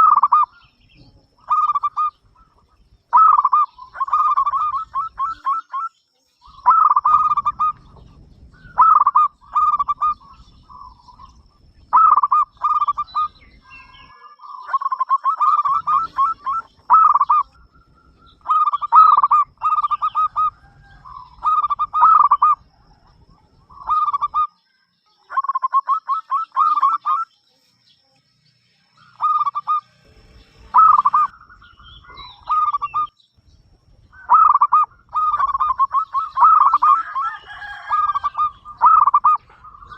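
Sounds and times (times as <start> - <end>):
dove cooing: 0.0 - 24.6, 25.3 - 27.3, 29.0 - 39.9.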